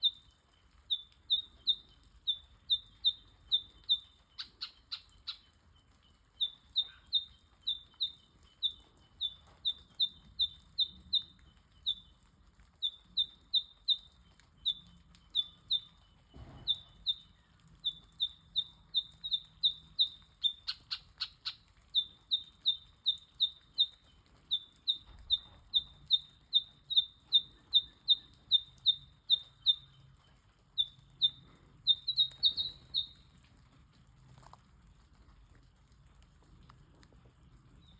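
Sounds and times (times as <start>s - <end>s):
birds piping calls: 0.0s - 33.4s.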